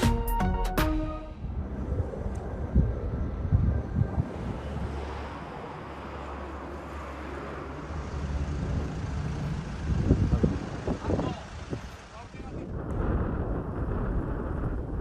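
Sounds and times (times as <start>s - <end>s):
aircraft engines droning overhead: 1.2s - 15.0s.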